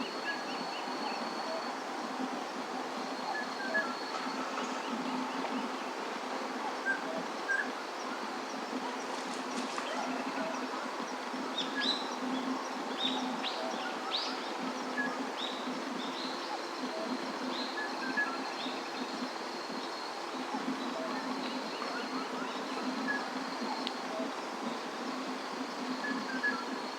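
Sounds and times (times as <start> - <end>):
outdoor background hiss: 0.0 - 26.9.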